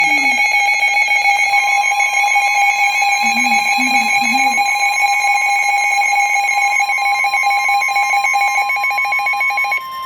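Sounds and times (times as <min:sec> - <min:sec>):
two-tone electronic alarm: 0:00.0 - 0:10.0.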